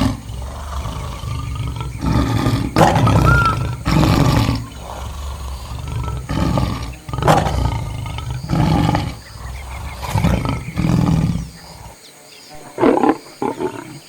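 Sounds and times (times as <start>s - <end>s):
lion roaring: 0.0s - 12.0s, 12.6s - 14.0s.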